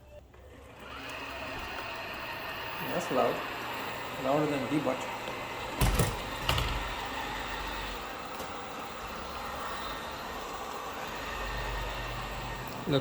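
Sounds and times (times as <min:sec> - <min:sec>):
robot vacuum whirring: 0:00.3 - 0:13.0.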